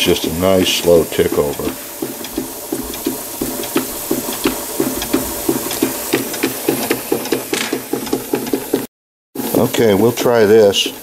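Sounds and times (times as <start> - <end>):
steam engine exhaust beating: 0.0 - 11.0
steam hissing: 0.0 - 11.0.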